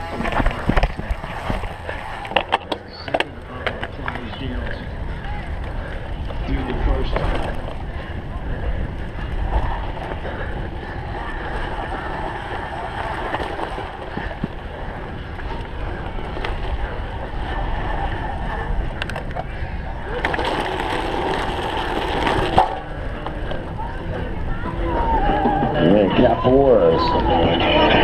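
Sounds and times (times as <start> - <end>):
bike tyres on dirt and grass: 0.0 - 27.3
wind on microphone: 0.0 - 28.0.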